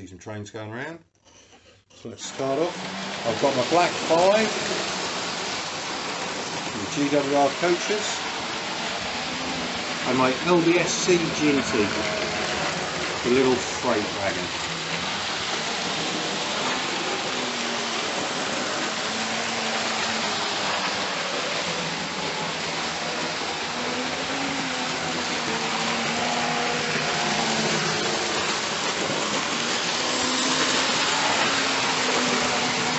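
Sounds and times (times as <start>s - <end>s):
model train running on track: 2.1s - 32.9s.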